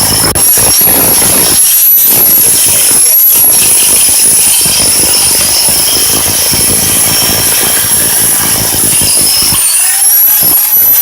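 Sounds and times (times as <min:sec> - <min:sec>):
high motor whine: 0:00.0 - 0:11.0
rotary hammer hammering concrete: 0:00.0 - 0:11.0.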